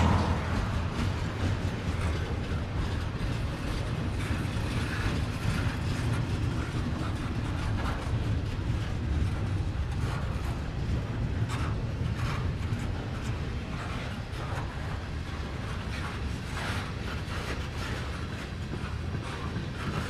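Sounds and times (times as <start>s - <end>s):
clicks and squeaks from rail cars: 0.0s - 20.0s
train wheels rumbling on rail: 0.0s - 20.0s.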